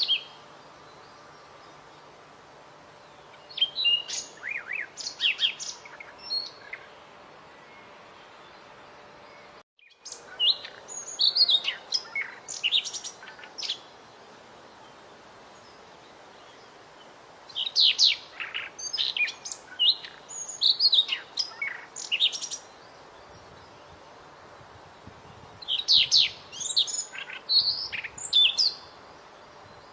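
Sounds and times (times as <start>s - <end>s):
faint steady hiss: 0.0s - 29.9s.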